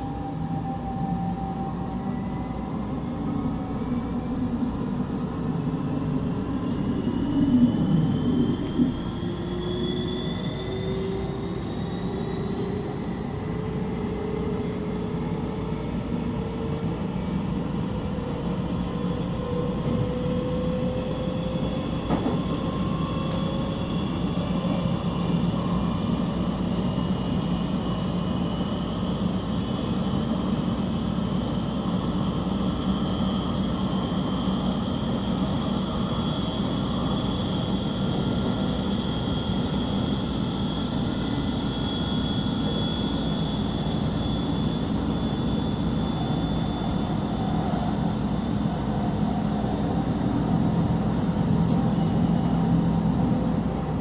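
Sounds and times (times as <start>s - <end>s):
traction drive whine: 0.0s - 54.0s
train rumbling on rails: 0.0s - 54.0s.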